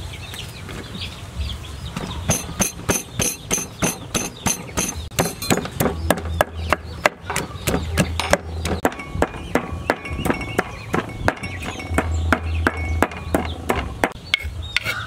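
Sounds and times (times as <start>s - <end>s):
pestle pounding in clay mortar: 2.0s - 14.9s.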